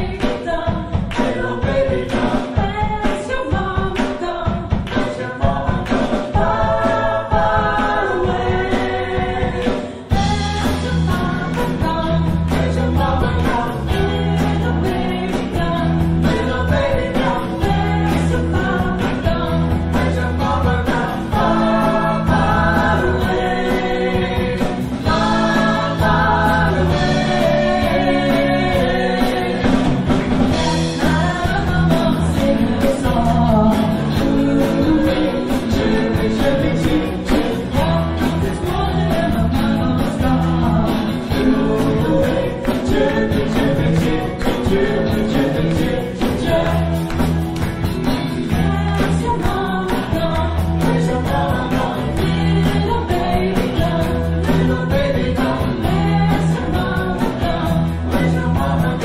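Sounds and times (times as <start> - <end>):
live pop band playing: 0.0 - 59.0.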